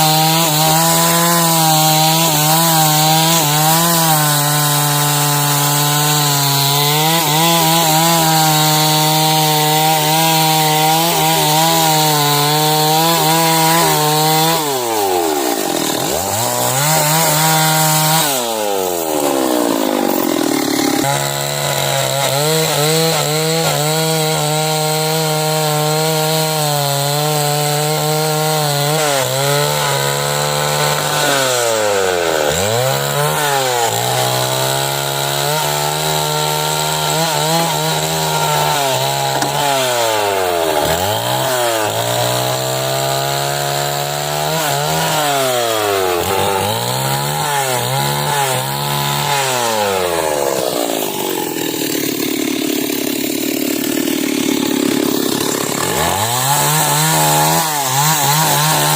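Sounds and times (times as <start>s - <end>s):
chainsaw ripping log: 0.0s - 58.9s.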